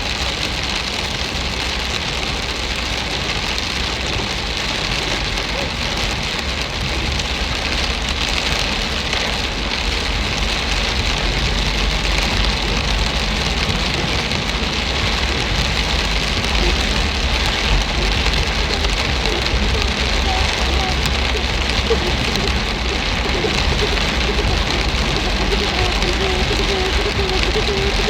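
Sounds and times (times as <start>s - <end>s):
rain splashing on hard surfaces: 0.0s - 28.0s.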